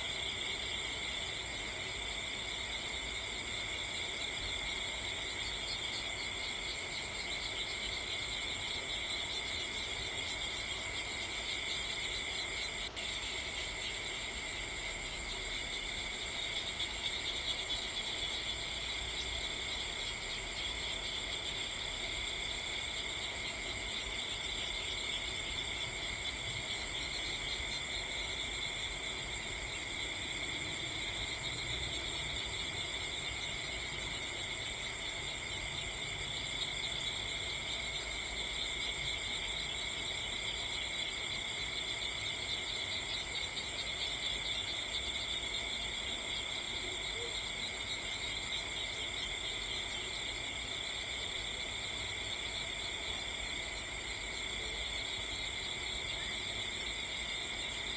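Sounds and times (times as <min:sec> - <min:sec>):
shrill chorus of night insects: 0:00.0 - 0:57.9.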